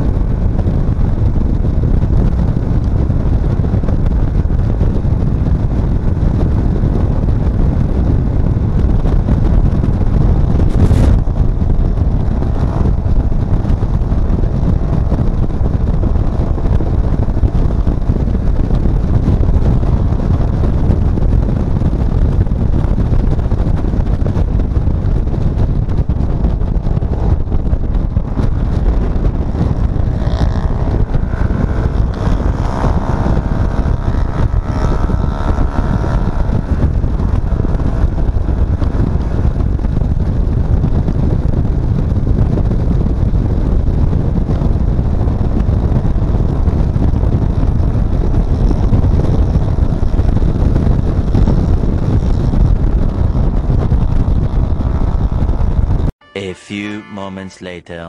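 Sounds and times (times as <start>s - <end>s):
vehicle engine and road noise: 0.0s - 56.2s
wind buffeting microphone: 0.0s - 56.2s.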